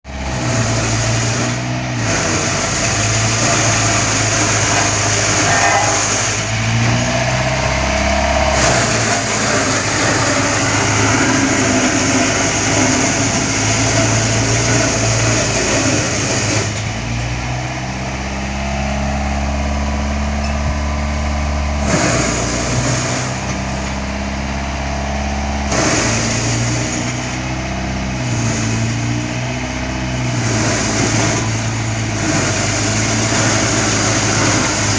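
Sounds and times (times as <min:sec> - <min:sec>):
heavy vehicle engine running: 0:00.0 - 0:34.9.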